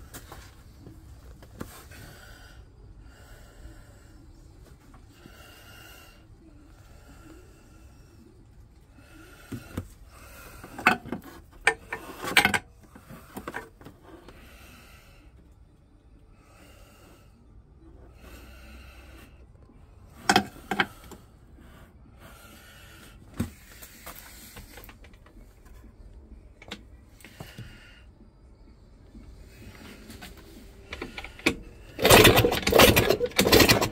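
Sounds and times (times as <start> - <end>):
person breathing close to microphone: 1.6 - 15.6, 16.2 - 26.4, 27.0 - 33.9.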